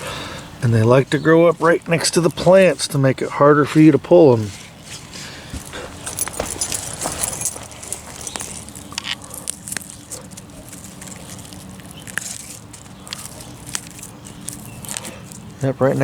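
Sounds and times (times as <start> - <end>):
plant stems rustling and snapping: 0.8 - 16.0.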